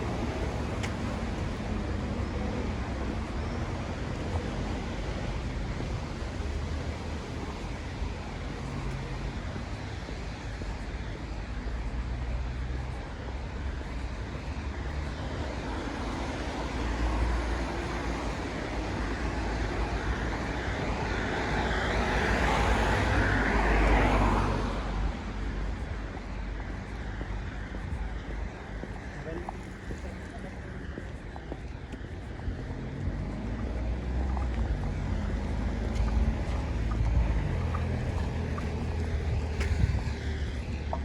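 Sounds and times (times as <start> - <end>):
traffic on wet road: 0.0 - 41.0.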